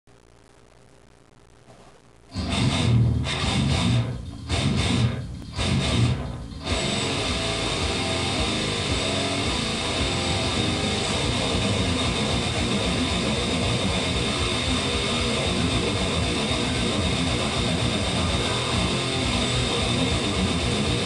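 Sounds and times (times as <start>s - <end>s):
distorted electric guitar riff: 1.6s - 21.0s.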